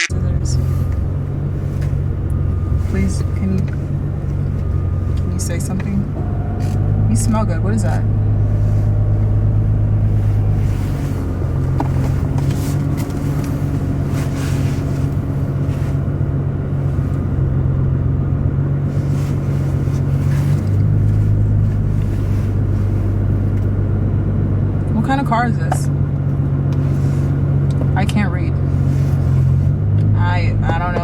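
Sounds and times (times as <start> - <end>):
car engine drone inside cabin: 0.0 - 31.0.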